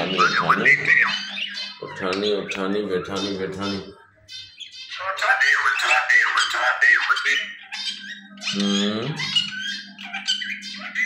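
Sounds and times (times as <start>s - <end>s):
pet birds squawking: 0.0s - 11.0s.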